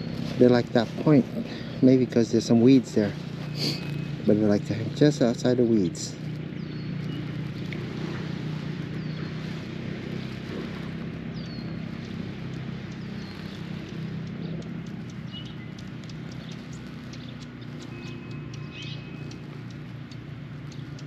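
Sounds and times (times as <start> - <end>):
bird chirping: 0.0 - 21.0
sharp ticks: 0.0 - 21.0
steady low hum: 0.0 - 21.0.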